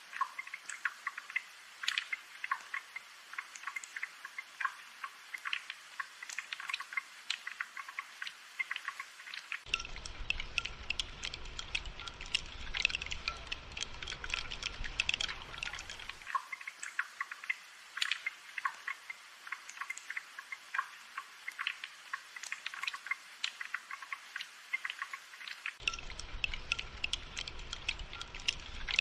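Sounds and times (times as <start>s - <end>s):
rain dripping and pattering: 0.0s - 29.0s.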